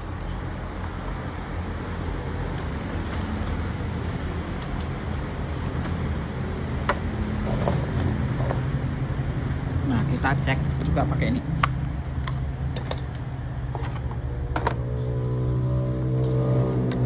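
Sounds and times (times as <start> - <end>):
low rumble with hum: 1.5 - 17.0.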